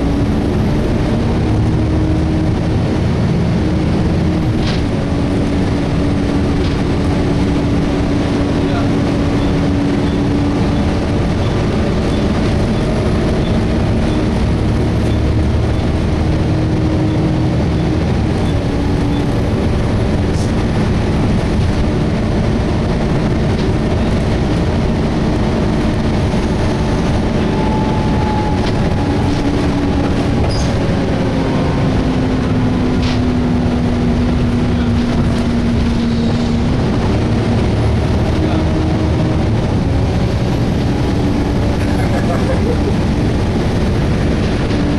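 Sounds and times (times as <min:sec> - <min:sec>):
bus diesel engine running: 0:00.0 - 0:44.9
road noise: 0:00.0 - 0:44.9.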